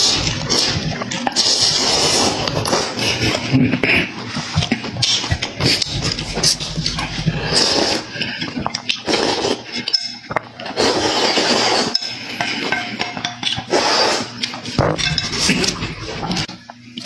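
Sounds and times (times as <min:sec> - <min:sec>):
loud eating noises: 0:00.0 - 0:17.0
utensils clinking on dishes: 0:00.0 - 0:17.0.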